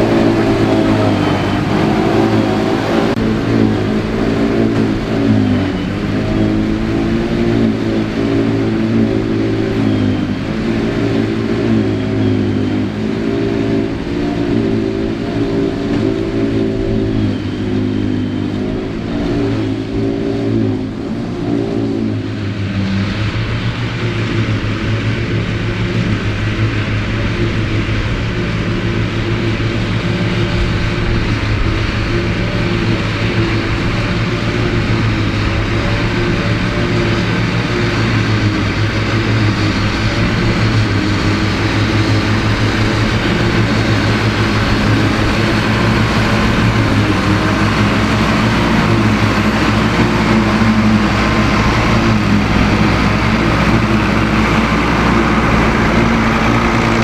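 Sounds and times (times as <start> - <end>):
forage harvester cutting silage: 0.0 - 57.0
tractor diesel engine under load: 0.0 - 57.0.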